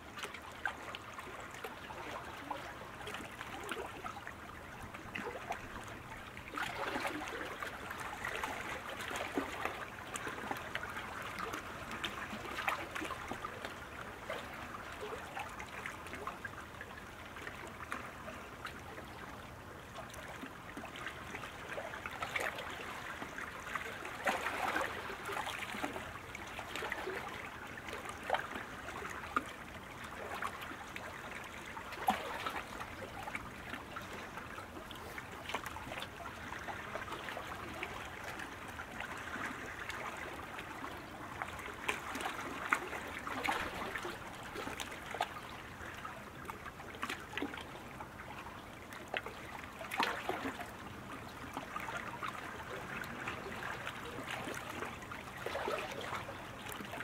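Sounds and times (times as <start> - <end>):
kayak paddles splashing water: 0.1 - 57.0.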